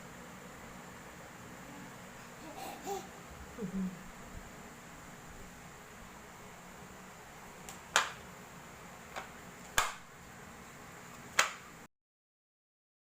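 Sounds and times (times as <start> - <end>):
faint steady hum: 0.0 - 11.9.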